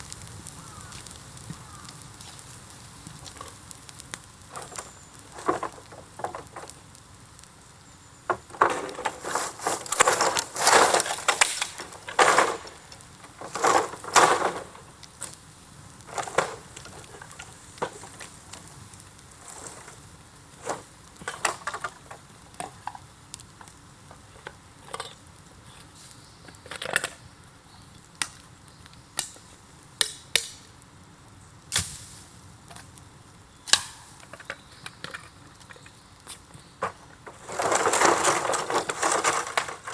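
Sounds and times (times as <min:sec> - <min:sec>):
burning bamboo crackling and popping: 0:00.0 - 0:39.9.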